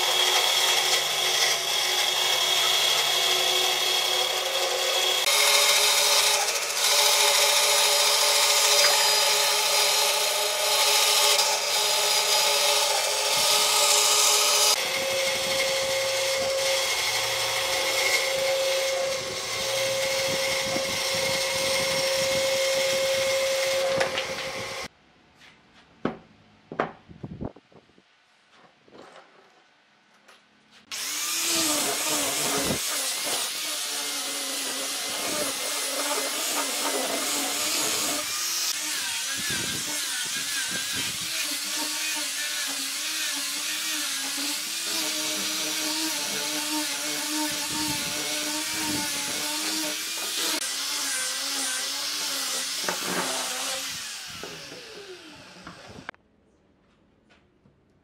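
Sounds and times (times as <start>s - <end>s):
power tool running on wood: 0.0s - 24.9s, 30.9s - 56.1s.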